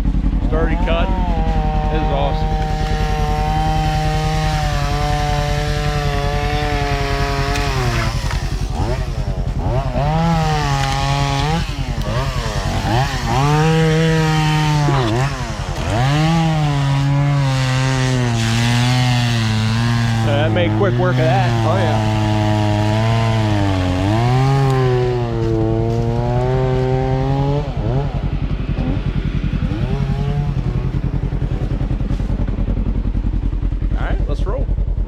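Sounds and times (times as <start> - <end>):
chainsaw cutting tree: 0.0 - 32.4.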